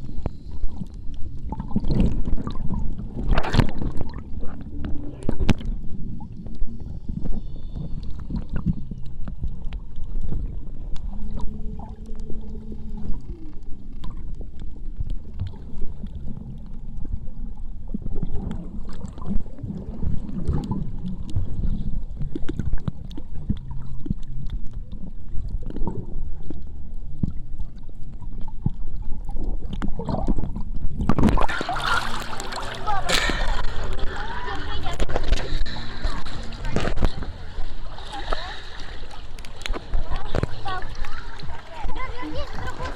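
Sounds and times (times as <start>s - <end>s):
low hum: 0.0s - 42.9s
muffled underwater rumble: 0.0s - 42.9s
underwater clicks and crackles: 0.0s - 42.9s.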